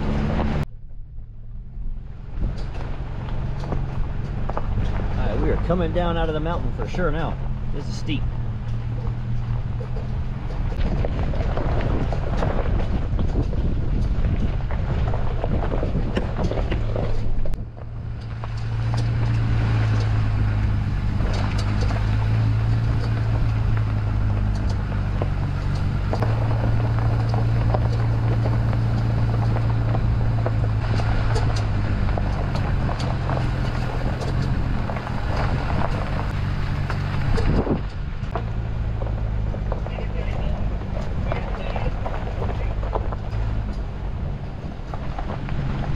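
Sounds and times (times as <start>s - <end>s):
car engine running low: 0.0s - 45.9s.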